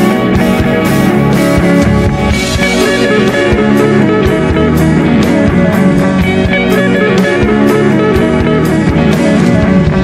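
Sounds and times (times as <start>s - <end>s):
rock music with guitar: 0.0s - 10.0s
steady drum beat: 0.0s - 10.0s.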